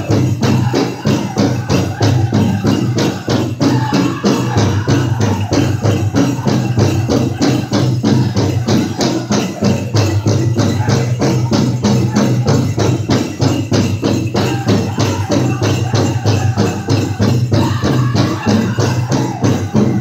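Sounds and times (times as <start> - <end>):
big drum beating fast: 0.0 - 20.0
group singing: 0.0 - 20.0
jingling bells: 0.0 - 20.0.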